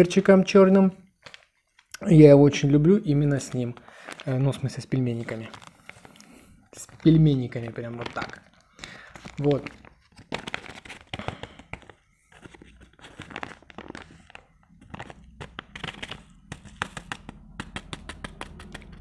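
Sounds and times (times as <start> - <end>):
paper sachet crinkling: 1.2 - 1.9, 2.7 - 19.0.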